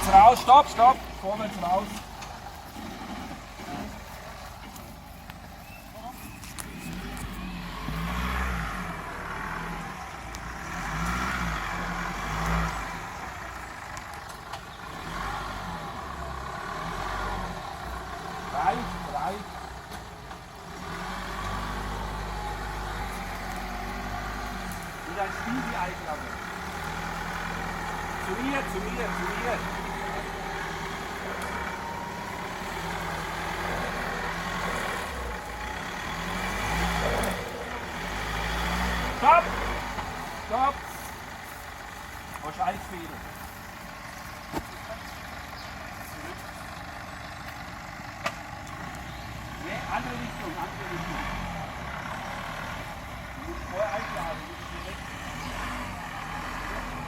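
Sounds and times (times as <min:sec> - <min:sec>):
car engine revving under load: 0:00.0 - 0:57.0.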